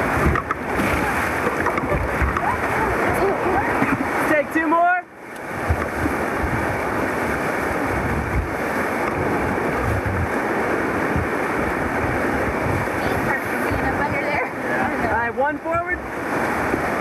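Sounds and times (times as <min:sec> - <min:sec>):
wind buffeting microphone: 0:00.0 - 0:04.5, 0:05.3 - 0:17.0
whitewater rapids rushing: 0:00.0 - 0:17.0.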